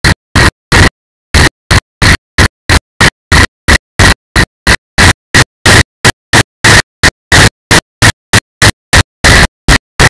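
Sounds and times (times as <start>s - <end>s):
harsh glitching noise bursts: 0.0s - 10.0s.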